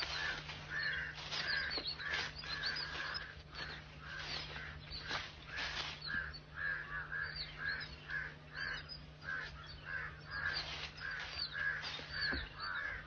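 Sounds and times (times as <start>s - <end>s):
harsh bird calls: 0.0s - 13.0s
high bird chirps: 0.0s - 13.0s
steady low hum: 0.0s - 13.0s.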